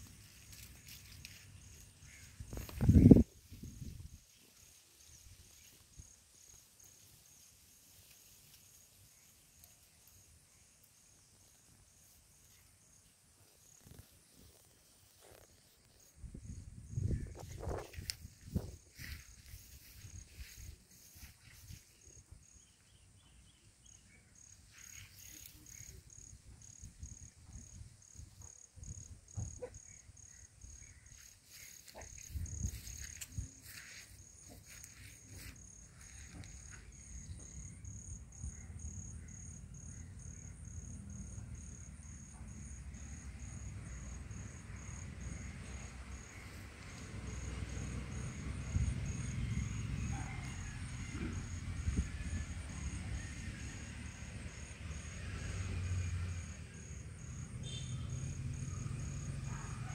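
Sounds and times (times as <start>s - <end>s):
insect chirping: 0.0s - 59.9s.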